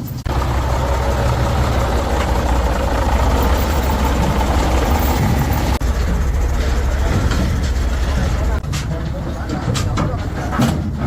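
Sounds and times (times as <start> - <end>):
diesel truck engine idling: 0.0 - 10.6.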